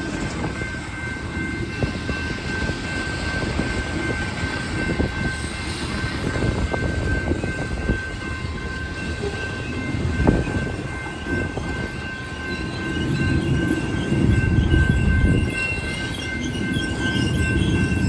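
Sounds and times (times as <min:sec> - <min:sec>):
steel wheels rumbling on rail: 0:00.0 - 0:18.0.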